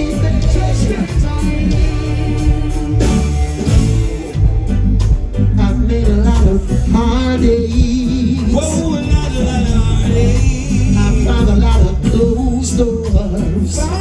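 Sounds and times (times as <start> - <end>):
person singing: 0.0 - 4.9, 5.5 - 14.0
bass line: 0.0 - 14.0
reggae band playing: 0.0 - 14.0.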